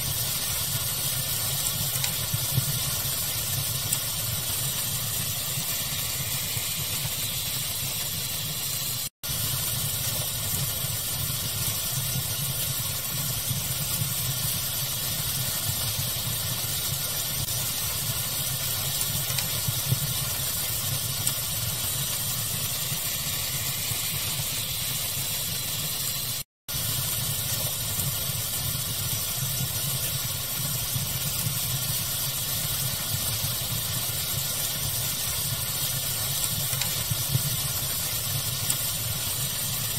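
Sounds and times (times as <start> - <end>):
steady hiss: 0.0 - 39.9
wood fire crackling: 0.0 - 39.9.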